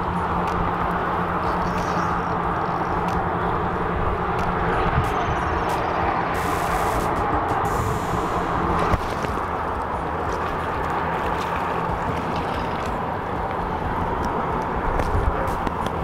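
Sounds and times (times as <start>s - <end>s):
water along shore: 0.0s - 16.0s
wind buffeting microphone: 0.0s - 16.0s.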